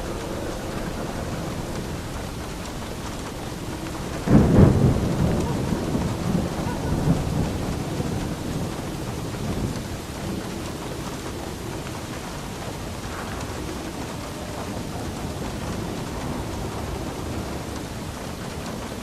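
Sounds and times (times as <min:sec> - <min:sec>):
steady rain: 0:00.0 - 0:19.0
thunder clap rumbling: 0:00.0 - 0:19.0.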